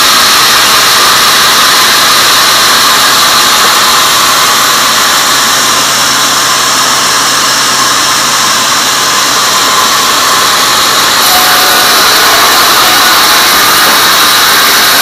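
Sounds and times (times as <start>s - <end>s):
band saw cutting log: 0.5s - 15.0s.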